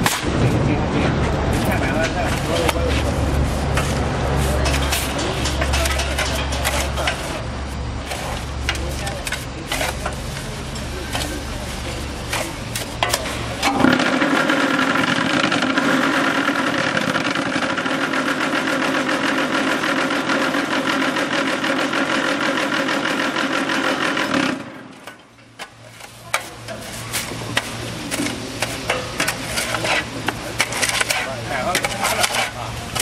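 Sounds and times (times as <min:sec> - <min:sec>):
concrete mix raked scraping: 0:01.2 - 0:24.0, 0:25.6 - 0:33.0.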